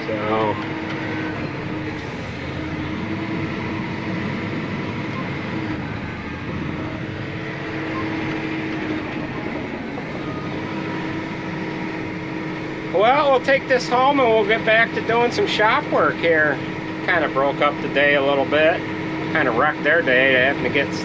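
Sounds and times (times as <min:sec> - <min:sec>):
cab fan hum: 0:00.0 - 0:21.0
tractor diesel engine running: 0:00.0 - 0:21.0.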